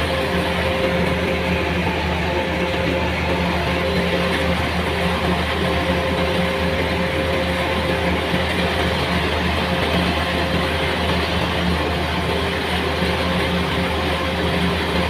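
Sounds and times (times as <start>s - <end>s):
heavy engine running: 0.0s - 15.0s.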